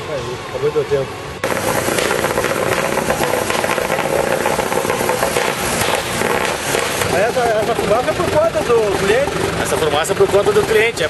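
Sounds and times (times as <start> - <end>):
loud diesel engine rattle: 1.4 - 11.0.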